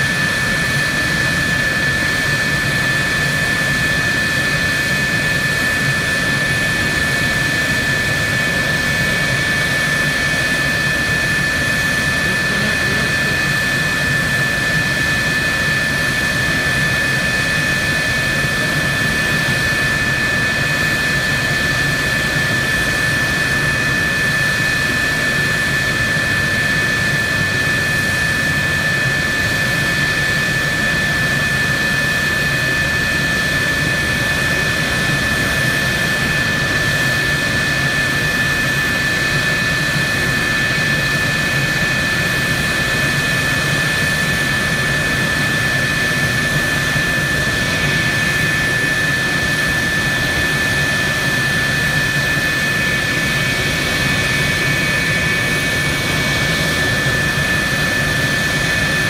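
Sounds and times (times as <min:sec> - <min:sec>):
jet turbine whining: 0:00.0 - 0:59.0.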